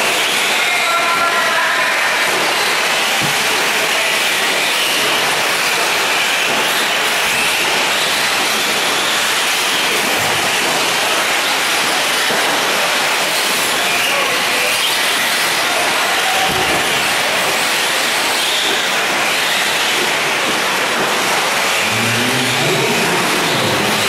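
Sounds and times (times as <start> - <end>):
rc trucks racing on dirt: 0.0 - 24.0.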